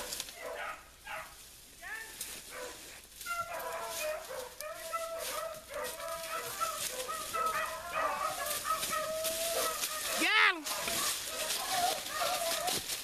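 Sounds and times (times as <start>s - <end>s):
dogs baying: 0.0s - 1.4s, 2.4s - 13.0s.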